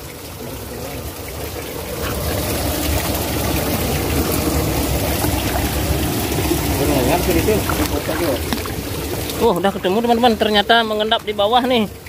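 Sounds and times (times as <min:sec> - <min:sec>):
stream water rushing past rocks: 0:00.0 - 0:12.0.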